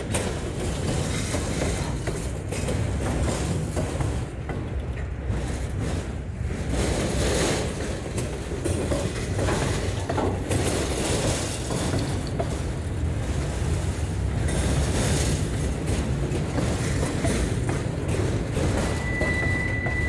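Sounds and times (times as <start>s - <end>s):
freight train wheels on rails: 0.0s - 20.0s
rail clicks: 0.0s - 20.0s.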